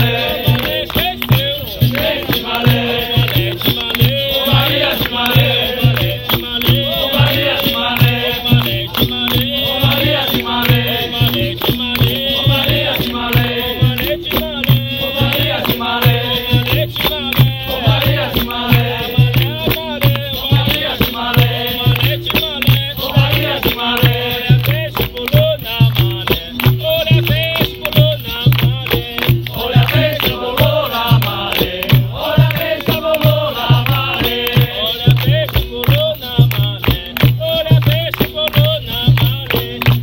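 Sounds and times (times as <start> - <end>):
call-and-response singing: 0.0 - 40.0
rattling percussion: 0.0 - 40.0
steady drum beat: 0.0 - 40.0.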